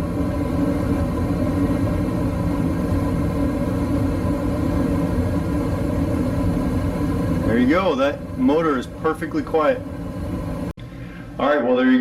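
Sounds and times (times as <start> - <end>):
gas furnace low rumble: 0.0 - 12.0.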